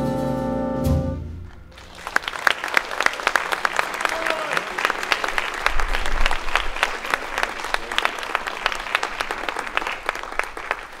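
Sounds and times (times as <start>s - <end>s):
audience applauding: 1.5s - 11.0s.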